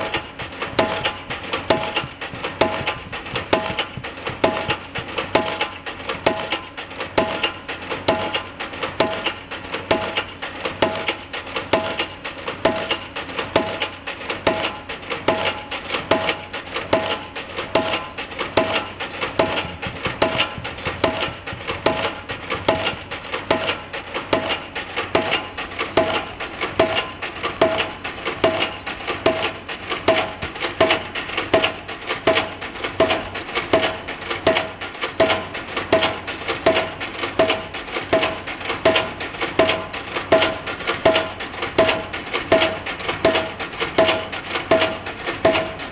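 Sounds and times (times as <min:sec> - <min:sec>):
pile-driving hammer striking: 0:00.0 - 0:08.4, 0:09.0 - 0:45.9.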